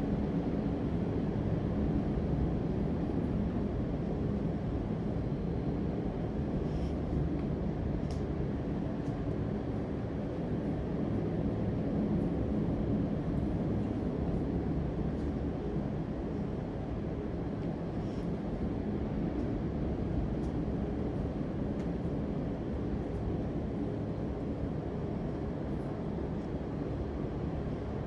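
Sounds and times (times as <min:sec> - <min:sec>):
low rumbling background noise: 0:00.0 - 0:28.0.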